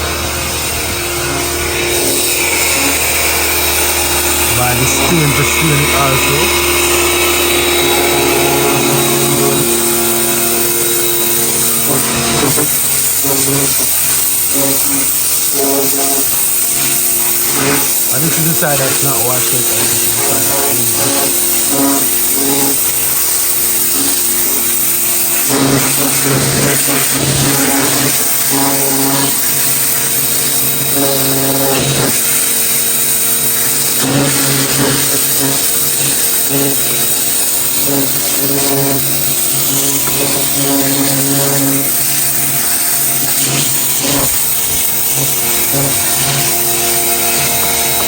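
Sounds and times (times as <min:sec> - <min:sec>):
motor drone: 0:00.0 - 0:48.0
pressure washer jet hissing: 0:00.0 - 0:48.0.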